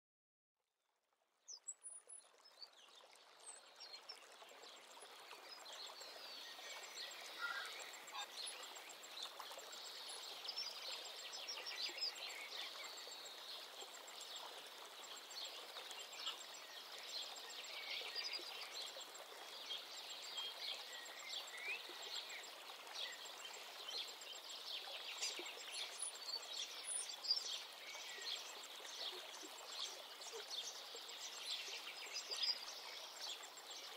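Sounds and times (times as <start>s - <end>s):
faint steady hiss: 1.4s - 33.9s
small birds chirping: 1.4s - 33.9s.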